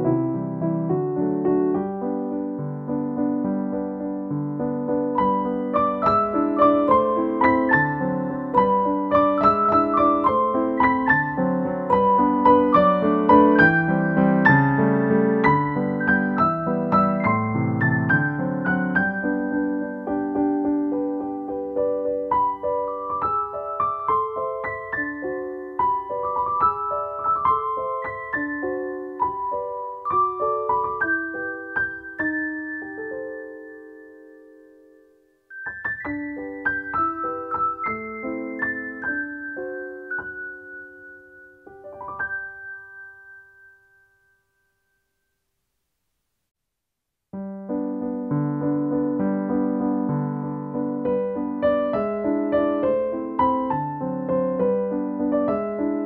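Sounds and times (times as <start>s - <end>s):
gentle piano music: 0.0s - 45.2s, 47.4s - 56.0s.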